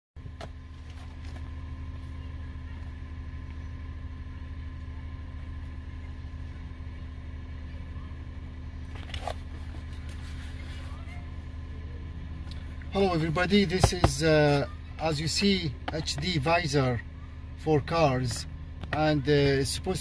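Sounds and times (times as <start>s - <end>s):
car idling: 0.2s - 20.0s.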